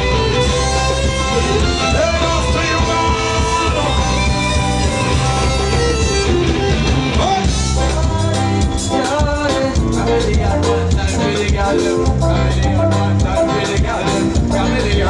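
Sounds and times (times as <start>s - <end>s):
bass beat: 0.0s - 15.0s
guitar: 0.0s - 15.0s
person singing: 0.0s - 15.0s.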